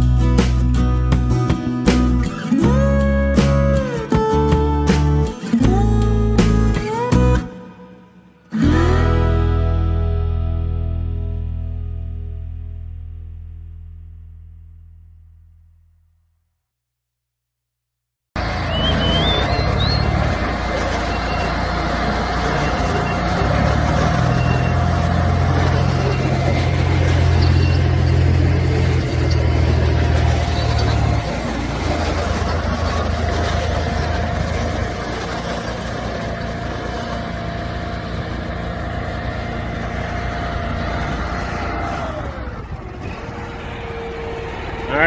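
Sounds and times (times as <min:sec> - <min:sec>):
bale wrapper engine hum: 0:00.0 - 0:15.8, 0:18.4 - 0:45.0.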